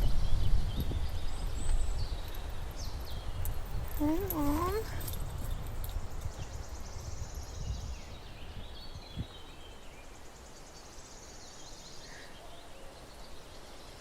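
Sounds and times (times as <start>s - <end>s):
small birds trilling and chirping: 0.0s - 14.0s.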